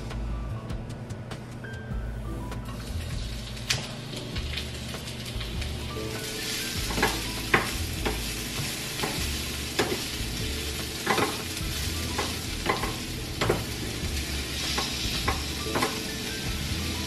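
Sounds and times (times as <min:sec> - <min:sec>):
onions sizzling in a frying pan: 0:02.8 - 0:17.0.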